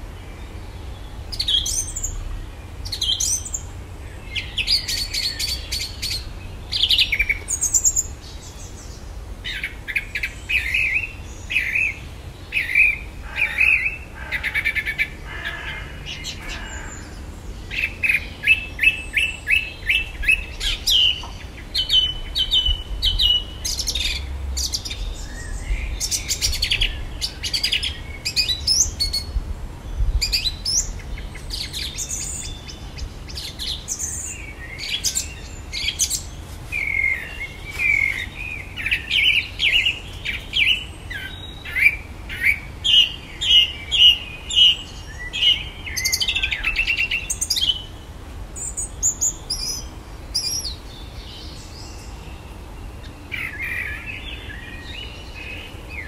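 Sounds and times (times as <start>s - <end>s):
blackbird singing: 0.0s - 29.4s, 30.2s - 56.0s.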